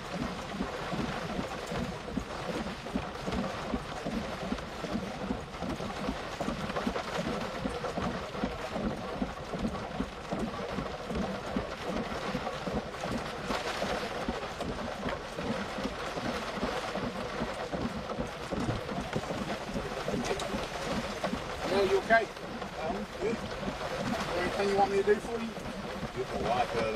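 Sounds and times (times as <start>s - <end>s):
wind and heavy rain on vehicle: 0.0s - 26.9s.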